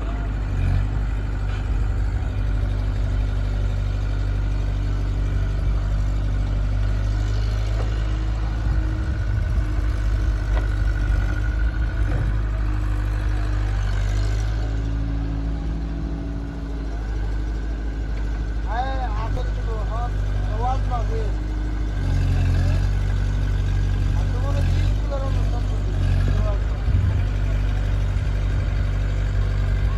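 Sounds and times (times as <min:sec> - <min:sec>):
diesel engines running: 0:00.0 - 0:29.9.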